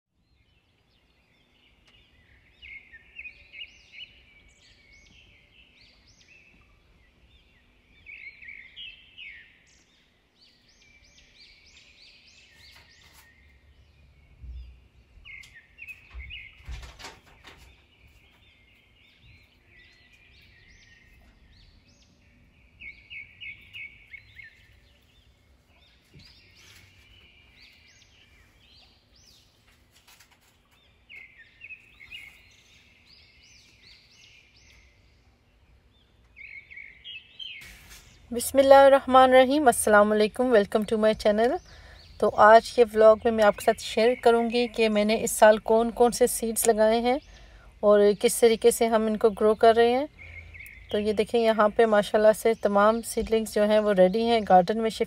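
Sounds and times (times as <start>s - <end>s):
small birds chirping: 0.1s - 55.0s.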